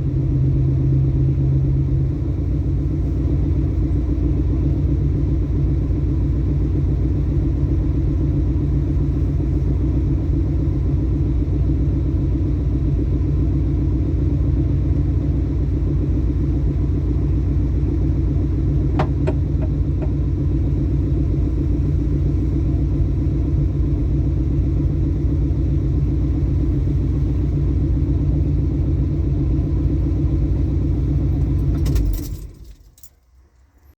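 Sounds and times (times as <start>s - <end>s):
engine rumbling: 0.0s - 33.9s.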